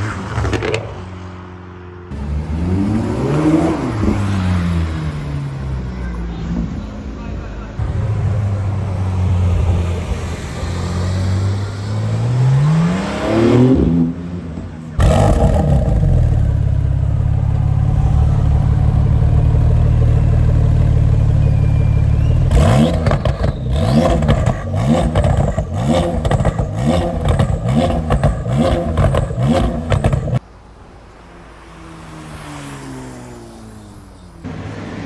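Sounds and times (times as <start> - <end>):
car engine revving: 0.0 - 30.4.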